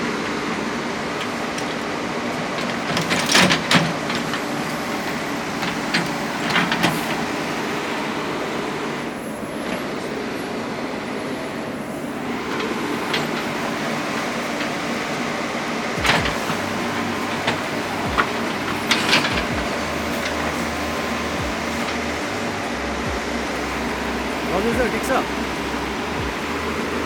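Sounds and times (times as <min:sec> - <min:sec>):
construction machine engine running: 0:00.0 - 0:27.0.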